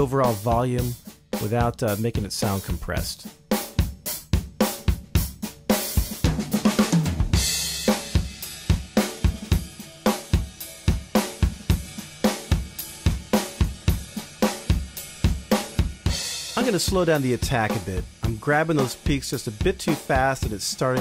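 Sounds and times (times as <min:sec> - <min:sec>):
drum kit groove: 0:00.0 - 0:21.0.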